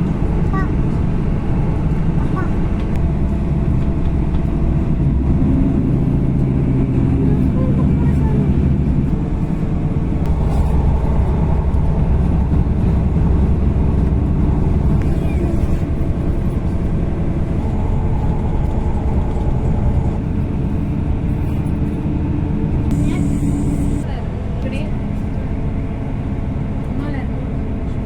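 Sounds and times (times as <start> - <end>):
faint train drive hum: 0.0 - 28.0
train wheels rumbling on rails: 0.0 - 28.0.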